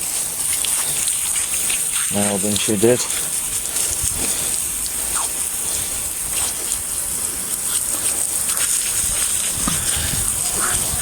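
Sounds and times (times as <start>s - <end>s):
garden hose spraying water: 0.0s - 11.0s
water dripping: 0.0s - 11.0s.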